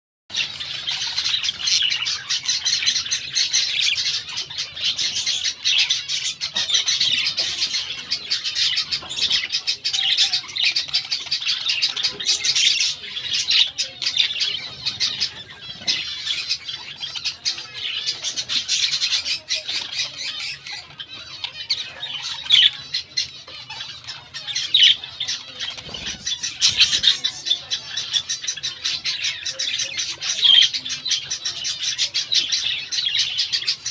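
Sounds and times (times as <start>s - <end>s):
budgerigars chattering: 0.3s - 33.9s.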